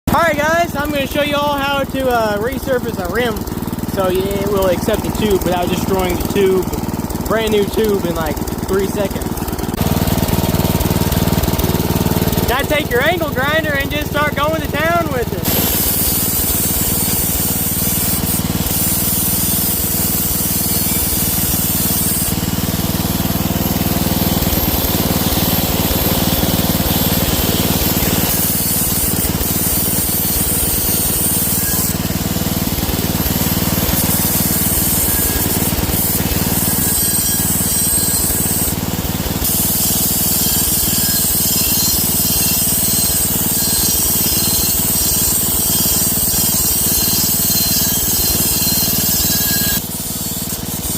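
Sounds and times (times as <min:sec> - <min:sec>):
angle grinder grinding metal: 0:00.6 - 0:50.9.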